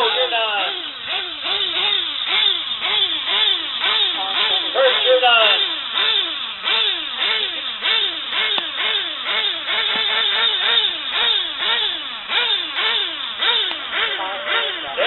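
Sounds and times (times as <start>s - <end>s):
rc truck motors whining: 0.0s - 15.0s.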